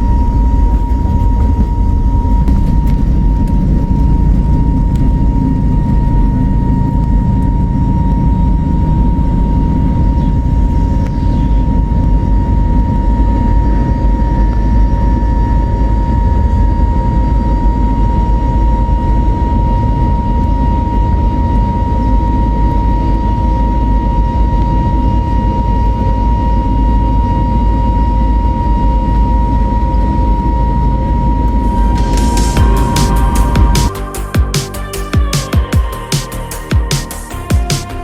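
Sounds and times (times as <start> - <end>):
high whine: 0.0 - 38.0
low rumble of engines and airflow: 0.0 - 38.0.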